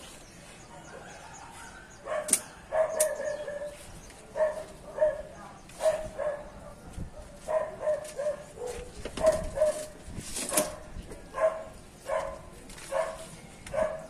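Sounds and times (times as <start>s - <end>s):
dog barking: 0.8s - 9.9s, 10.5s - 14.0s.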